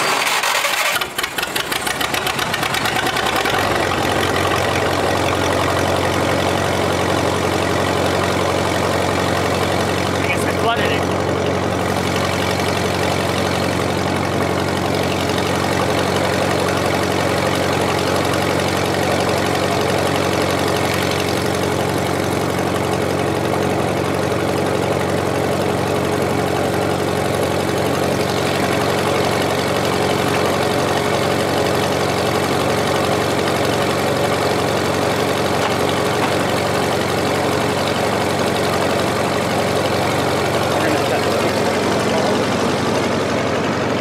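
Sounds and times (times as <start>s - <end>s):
welder engine idling: 0.0s - 44.0s.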